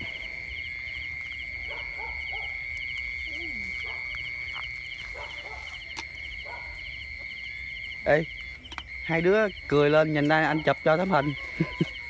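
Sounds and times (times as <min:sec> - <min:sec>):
insect chirps: 0:00.0 - 0:12.0
insect drone: 0:00.0 - 0:12.0.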